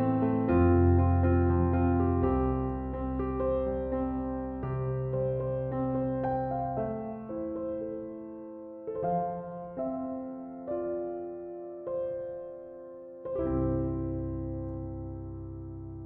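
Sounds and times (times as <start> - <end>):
soft slow piano music: 0.0 - 16.0.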